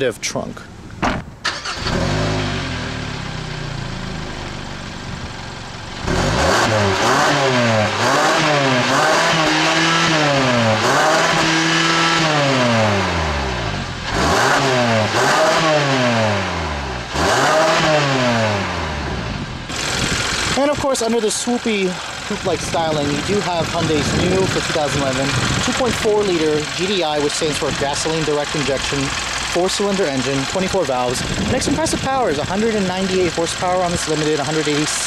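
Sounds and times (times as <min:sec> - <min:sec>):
car engine revving: 0:00.7 - 0:35.0.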